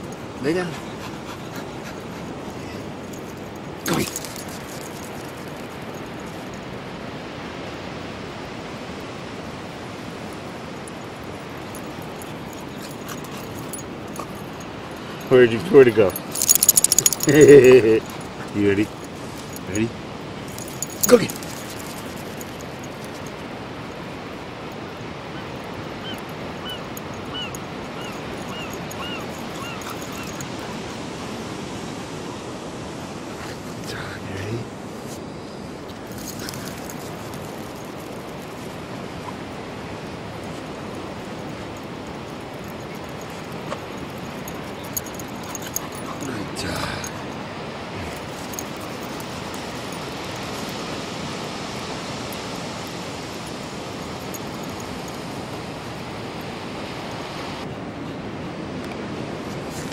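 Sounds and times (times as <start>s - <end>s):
surf on a beach: 0.0s - 16.4s, 17.2s - 59.9s
wind: 0.0s - 59.9s.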